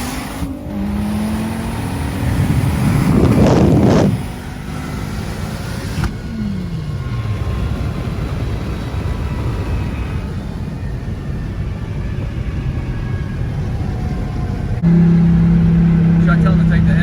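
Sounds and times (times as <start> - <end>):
car engine drone: 0.0 - 17.0
loud rushing swell: 0.0 - 17.0.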